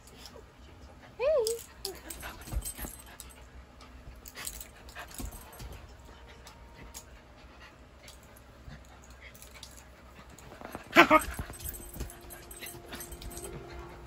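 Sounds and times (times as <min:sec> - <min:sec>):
faint clicks and rustles: 0:00.0 - 0:14.0
puppy panting: 0:01.0 - 0:14.0.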